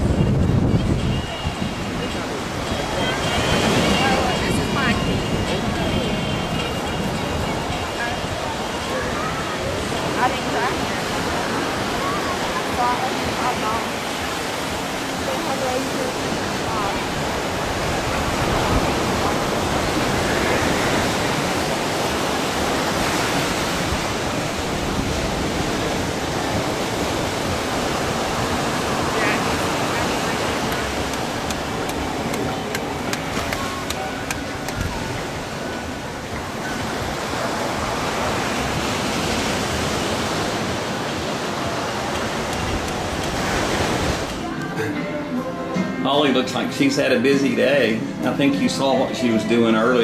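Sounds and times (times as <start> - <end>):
ocean surf: 0.0 - 50.0
wind: 0.0 - 50.0.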